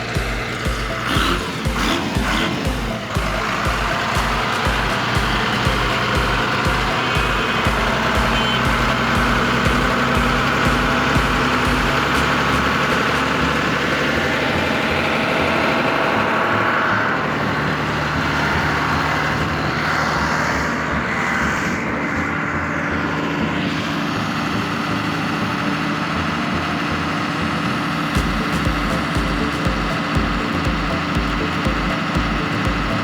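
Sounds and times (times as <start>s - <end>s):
vehicle motor running: 0.0s - 33.0s.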